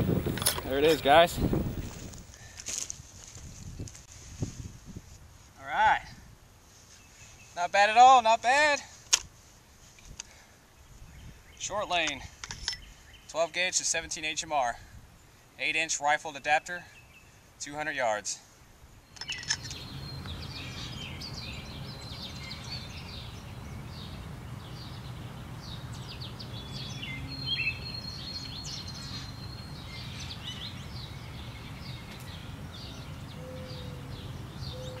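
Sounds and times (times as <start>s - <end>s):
songbirds chirping: 0.0s - 2.4s, 6.7s - 8.8s, 9.4s - 35.0s.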